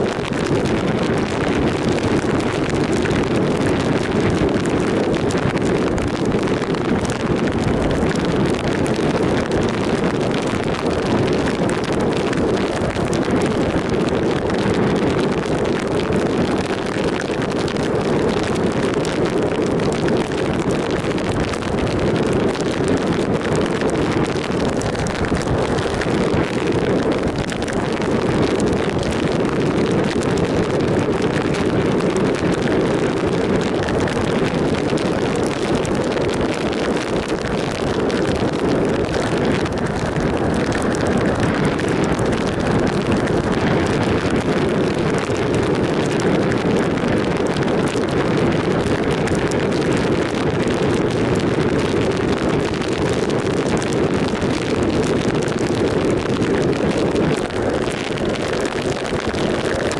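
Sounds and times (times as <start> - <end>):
wind rush over microphone: 0.0 - 59.9.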